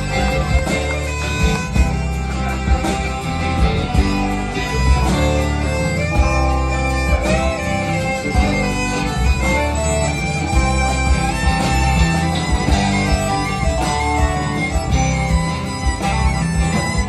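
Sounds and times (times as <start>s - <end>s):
country band playing: 0.0s - 17.0s
fiddle melody: 0.0s - 17.0s.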